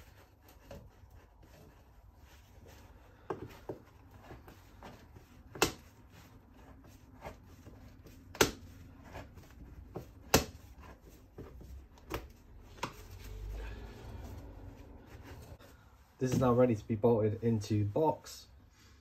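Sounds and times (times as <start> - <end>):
gloved hands rubbing and shuffling: 0.0 - 18.3.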